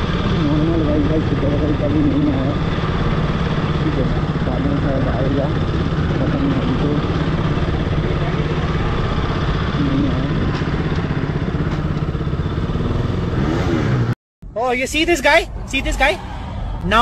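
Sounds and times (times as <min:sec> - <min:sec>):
motorcycle engine low rumble: 0:00.0 - 0:17.0.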